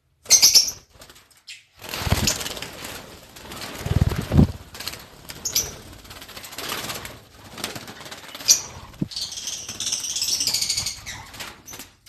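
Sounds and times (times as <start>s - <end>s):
birds flapping wings: 0.8s - 12.0s.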